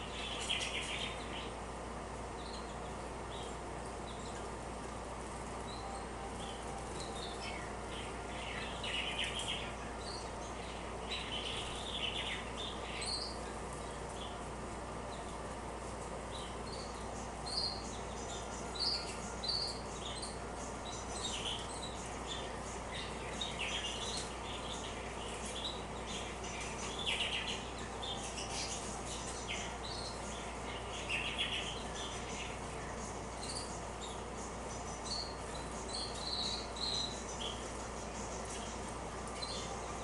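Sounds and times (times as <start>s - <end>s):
canaries chirping: 0.0s - 40.0s
steady low hum: 0.0s - 40.0s.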